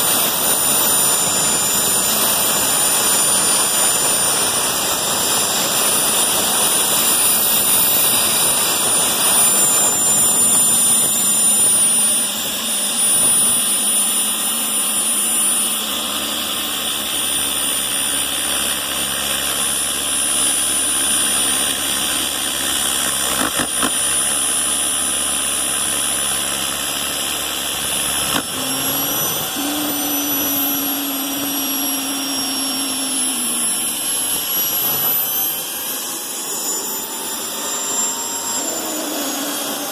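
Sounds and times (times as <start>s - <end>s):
helicopter turbine whine: 0.0s - 39.9s
lower engine tone: 0.0s - 39.9s.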